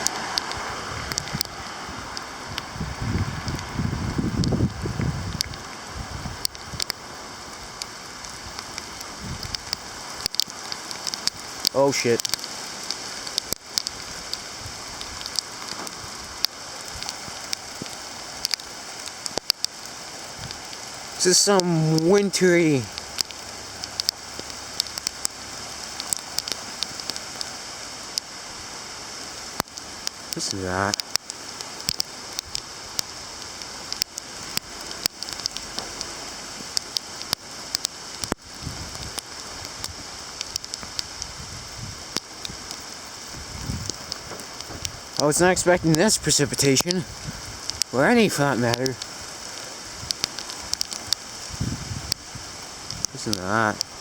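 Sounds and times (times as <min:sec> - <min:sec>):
heavy rain hissing: 0:00.0 - 0:54.0
ice pellets ticking on hard surfaces: 0:07.7 - 0:28.3, 0:29.5 - 0:41.3, 0:42.1 - 0:54.0.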